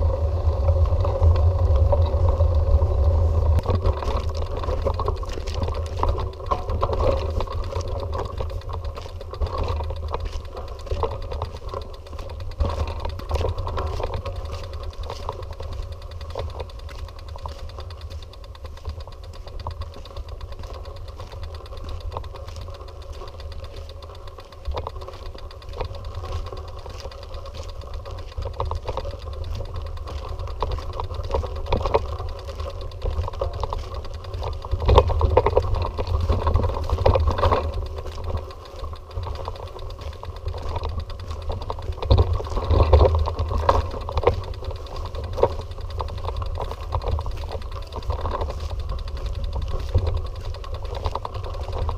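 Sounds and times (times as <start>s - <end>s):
bicycle rattling and clicking: 0.0s - 51.9s
wind rumbling on microphone: 0.0s - 51.9s.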